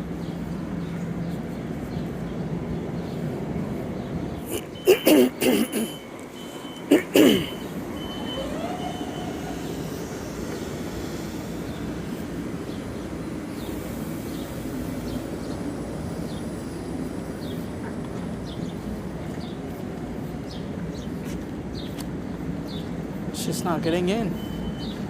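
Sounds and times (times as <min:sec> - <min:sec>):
vehicle rumble in motion: 0:00.0 - 0:25.0.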